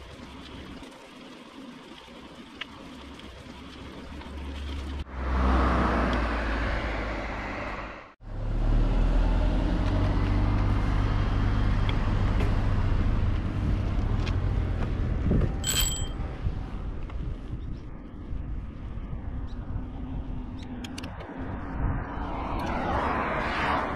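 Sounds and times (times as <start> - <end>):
bicycle road and wind noise: 0.0 - 23.9.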